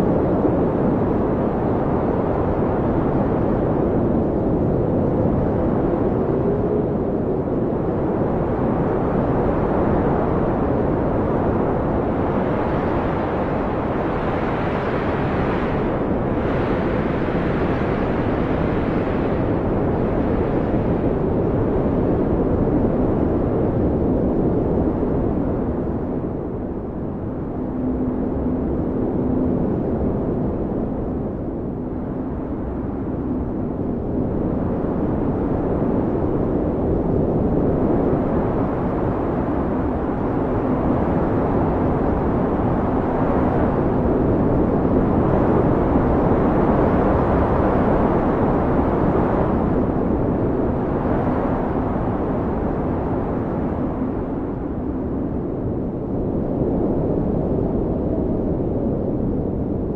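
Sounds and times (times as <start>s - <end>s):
faint low howl: 0.0s - 59.9s
strong wind blowing: 0.0s - 59.9s.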